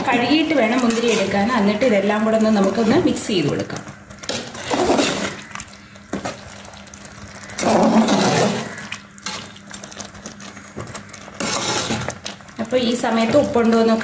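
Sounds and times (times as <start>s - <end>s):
spoon stirring thick gravy: 0.1s - 14.0s.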